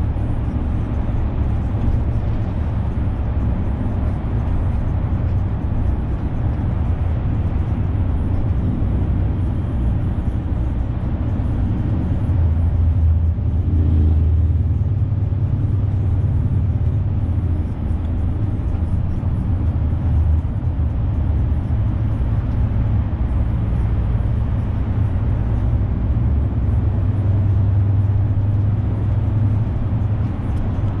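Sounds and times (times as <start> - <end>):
road noise: 0.0 - 31.0
truck diesel engine rumble: 0.0 - 31.0.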